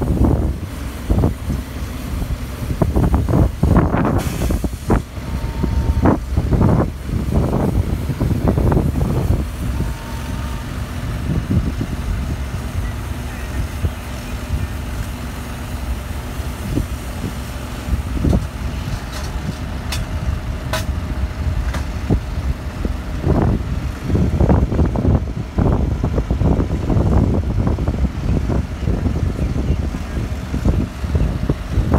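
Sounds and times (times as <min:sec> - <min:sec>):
diesel engines idling: 0:00.0 - 0:31.9.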